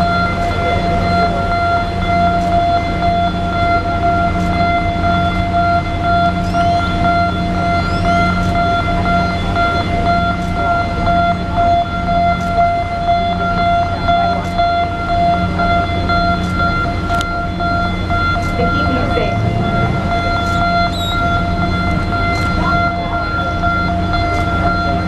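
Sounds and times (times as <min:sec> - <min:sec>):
high-pitched machinery tone: 0:00.0 - 0:25.0
low machinery rumble: 0:00.0 - 0:25.0
pulsing low drone: 0:00.0 - 0:25.0.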